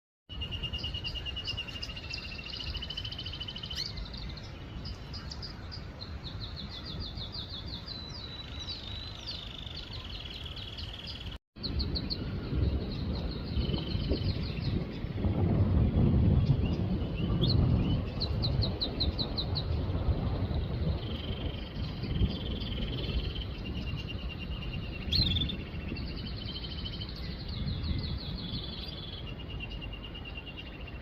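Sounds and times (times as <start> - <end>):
songbirds chirping and trilling: 0.3 - 31.0.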